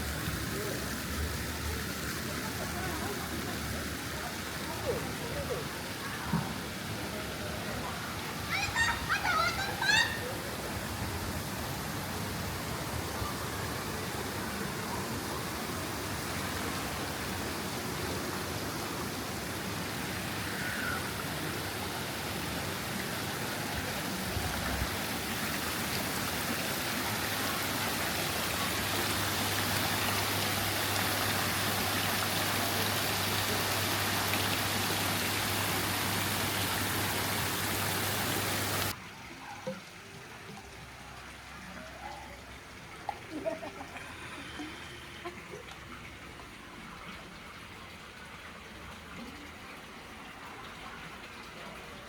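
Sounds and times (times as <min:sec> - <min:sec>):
water rushing and splashing: 0:00.0 - 0:52.0.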